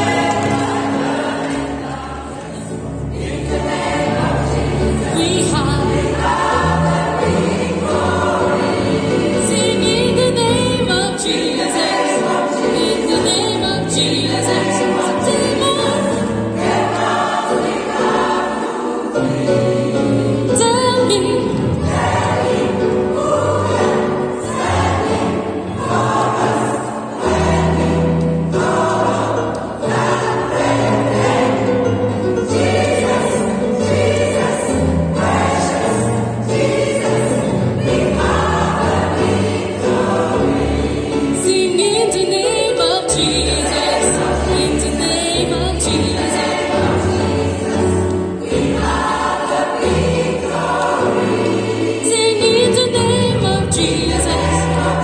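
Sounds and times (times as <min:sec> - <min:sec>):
gospel choir singing in harmony: 0:00.0 - 0:55.0.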